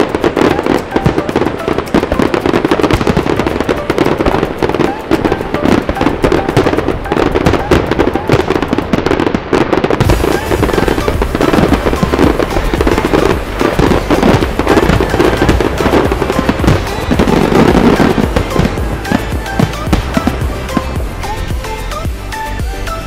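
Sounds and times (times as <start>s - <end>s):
fireworks bursting and crackling: 0.0s - 23.0s
music: 0.0s - 23.0s.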